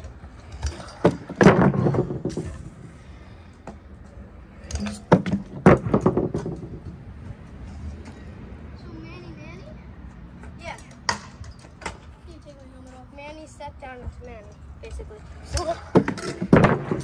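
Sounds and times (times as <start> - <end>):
scooter wheels rolling on concrete: 0.0 - 17.0.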